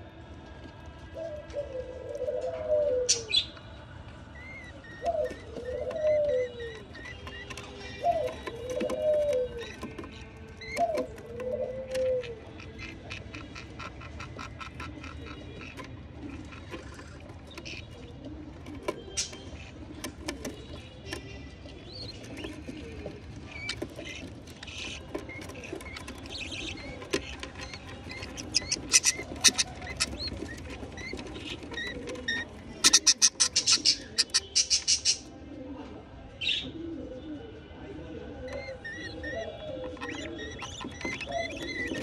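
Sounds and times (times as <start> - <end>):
bird chicks chirping: 4.3 - 35.3, 38.4 - 42.0.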